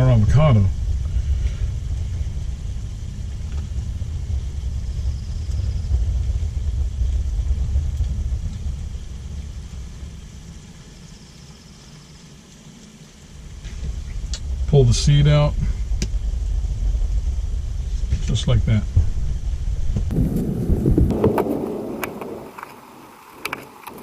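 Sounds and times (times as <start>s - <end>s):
low uneven rumble: 0.0s - 24.0s.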